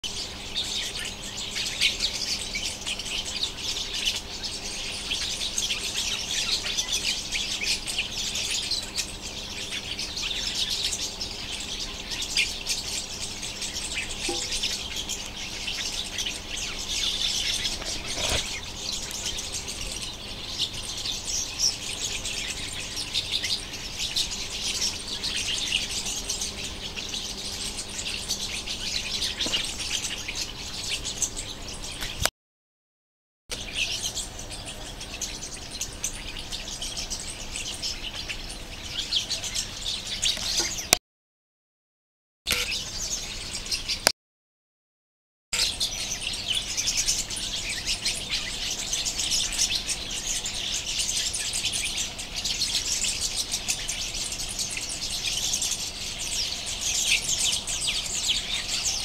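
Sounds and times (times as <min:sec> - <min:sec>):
flock of birds chirping: 0:00.0 - 0:32.3, 0:33.5 - 0:41.0, 0:42.5 - 0:44.1, 0:45.6 - 0:59.0.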